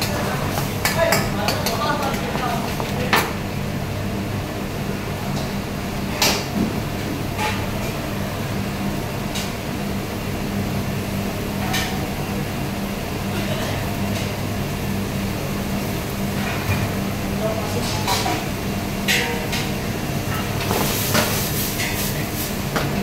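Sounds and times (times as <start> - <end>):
kitchen hum: 0.0 - 23.0.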